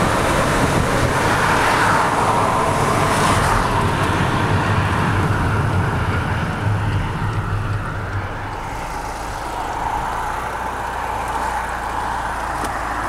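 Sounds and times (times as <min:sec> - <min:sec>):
deep rumble: 0:00.0 - 0:10.6
road and engine noise: 0:00.0 - 0:13.0.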